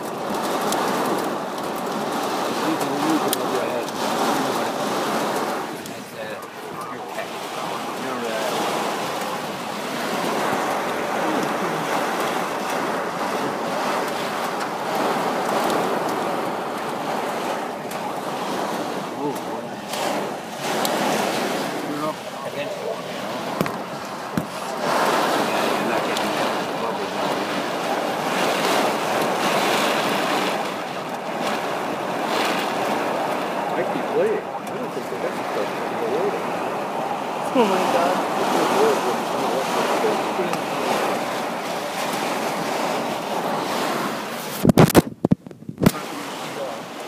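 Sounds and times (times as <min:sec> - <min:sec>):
heavy rain on car roof: 0:00.0 - 0:47.0.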